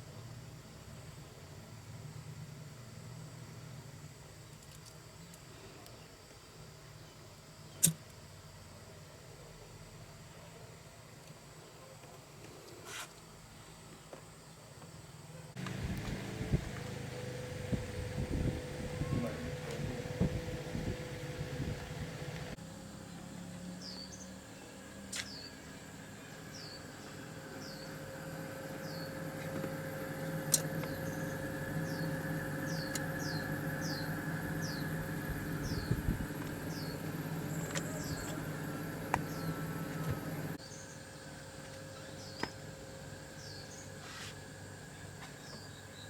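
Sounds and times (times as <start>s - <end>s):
mechanical hum: 0.0s - 46.0s.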